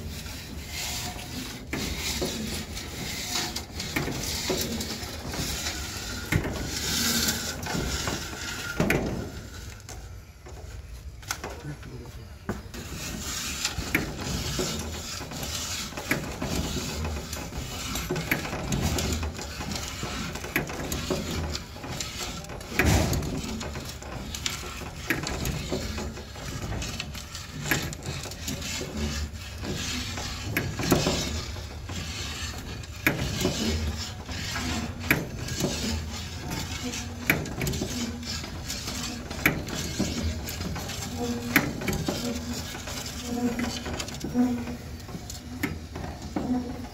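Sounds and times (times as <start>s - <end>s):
steel wire scraping and creaking: 0.0s - 12.1s, 12.7s - 46.9s.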